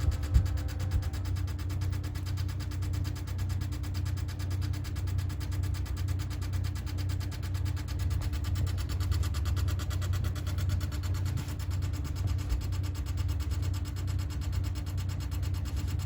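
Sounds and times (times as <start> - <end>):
air conditioner low hum: 0.0 - 16.0
air conditioner rattling: 0.0 - 16.0.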